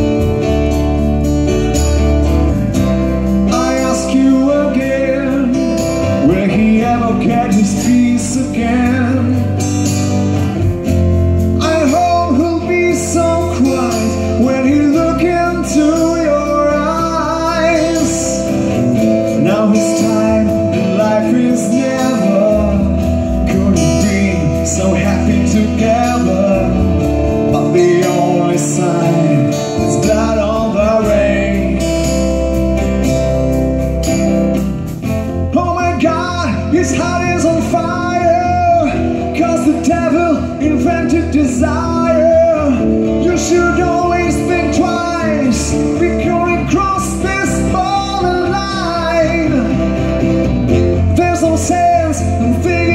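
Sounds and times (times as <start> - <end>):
acoustic guitars strumming: 0.0 - 52.9
bass guitar: 0.0 - 52.9
drums: 0.0 - 52.9.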